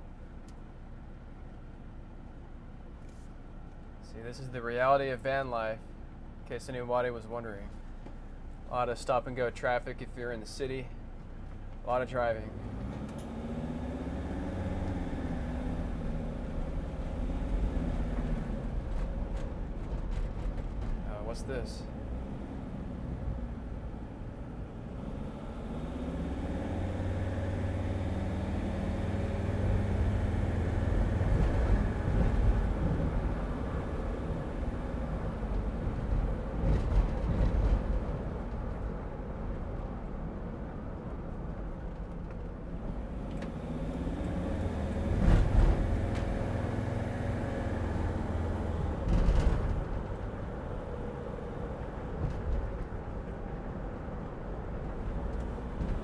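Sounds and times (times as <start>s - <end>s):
van engine and road rumble: 0.0s - 56.0s.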